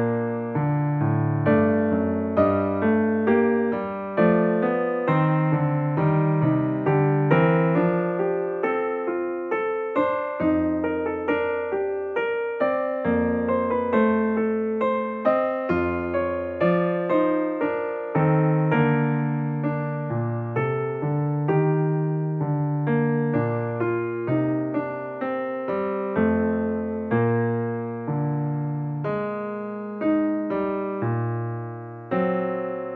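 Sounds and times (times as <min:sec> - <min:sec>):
calm piano music: 0:00.0 - 0:32.9.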